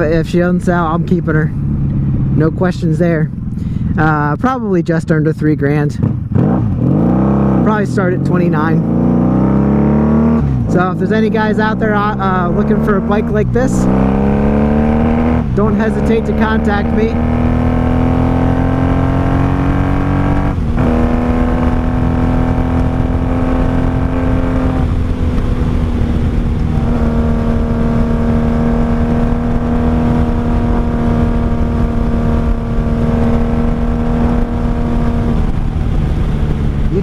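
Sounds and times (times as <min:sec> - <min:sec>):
low rumble: 0:00.0 - 0:37.0
motorcycle engine under throttle: 0:05.7 - 0:37.0.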